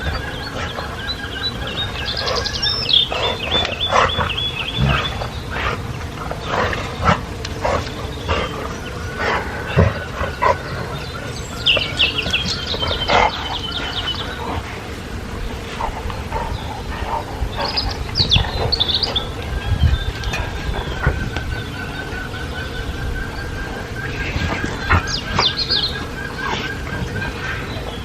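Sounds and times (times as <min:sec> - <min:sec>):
songbird trilling: 0:00.0 - 0:28.0.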